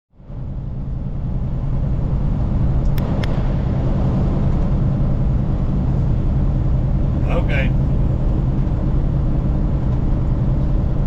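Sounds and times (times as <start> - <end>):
road vehicle rumble: 0.1 - 11.0.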